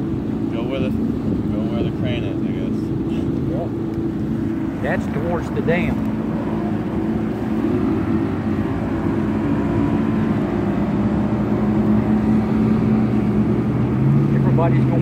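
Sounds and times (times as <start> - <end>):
outboard motor running: 0.0 - 15.0
water noise: 0.0 - 15.0.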